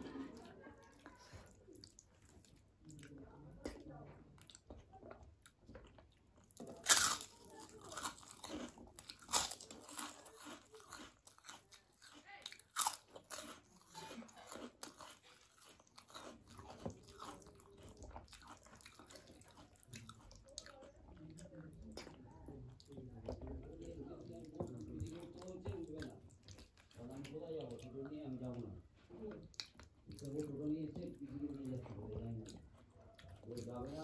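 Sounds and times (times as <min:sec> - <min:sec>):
crunchy food being chewed: 0:00.0 - 0:34.0.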